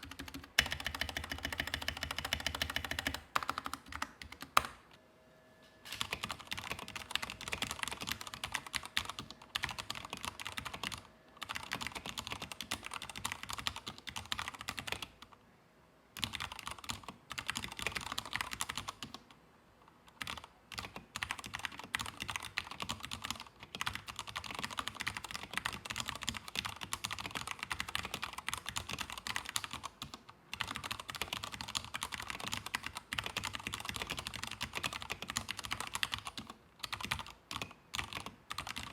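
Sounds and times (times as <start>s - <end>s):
mechanical keyboard typing: 0.0s - 4.8s, 5.9s - 15.3s, 16.2s - 19.3s, 20.1s - 38.9s.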